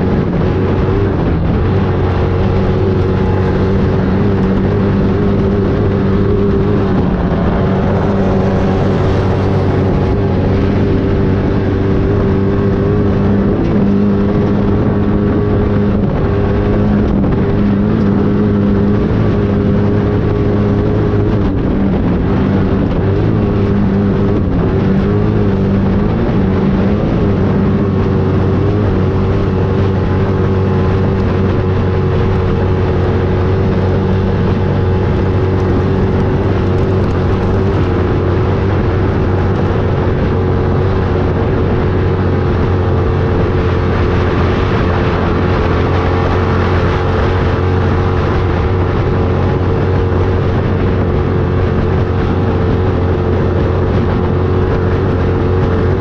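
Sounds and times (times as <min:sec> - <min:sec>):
engine running loudly: 0:00.0 - 0:56.0.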